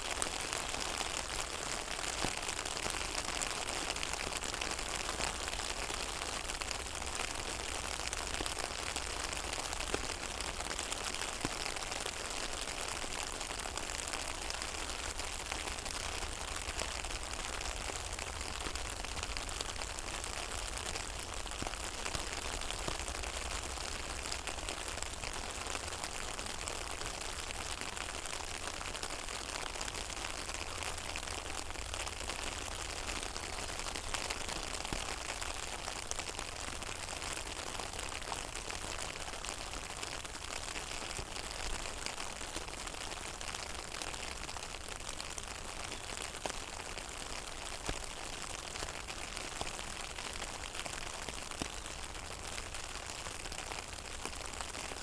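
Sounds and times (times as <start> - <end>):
rain falling on a pond: 0.0 - 55.0.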